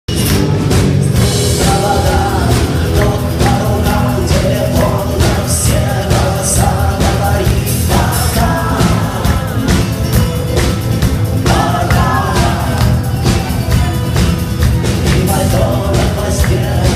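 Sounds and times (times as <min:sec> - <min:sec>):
person singing: 0:00.1 - 0:16.9
steady driving beat: 0:00.1 - 0:16.9.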